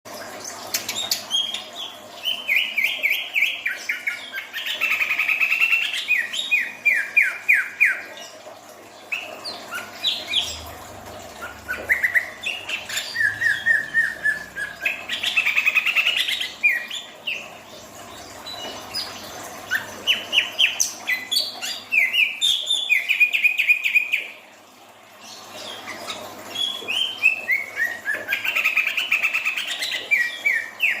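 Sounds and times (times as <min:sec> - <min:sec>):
bird singing chirps and trills: 0:00.2 - 0:08.4, 0:09.1 - 0:10.8, 0:11.4 - 0:24.4, 0:25.2 - 0:31.0.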